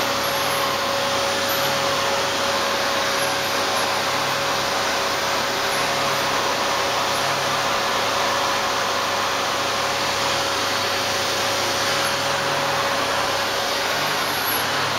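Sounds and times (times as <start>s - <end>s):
vacuum cleaner running: 0.0s - 14.9s.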